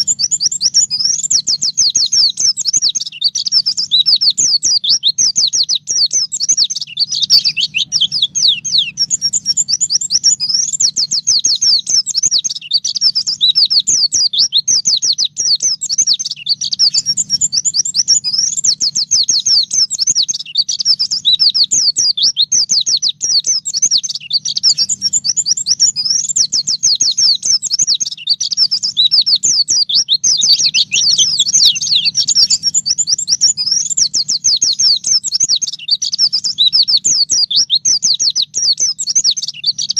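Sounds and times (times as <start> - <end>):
bird singing rapid chirps and trills: 0.0 - 39.9.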